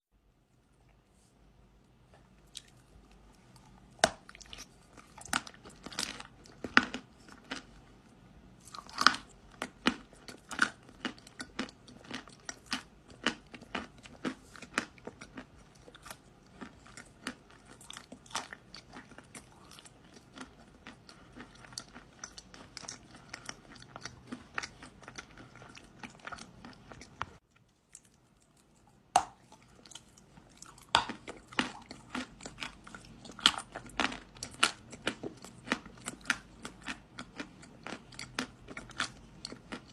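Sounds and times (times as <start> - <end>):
biting and crunching clay: 4.0 - 7.7, 8.7 - 27.2, 29.1 - 39.9.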